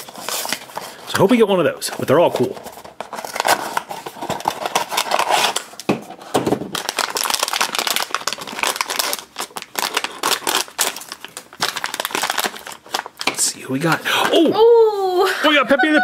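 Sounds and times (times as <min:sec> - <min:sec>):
packaging crinkling and tearing: 0:00.0 - 0:14.4.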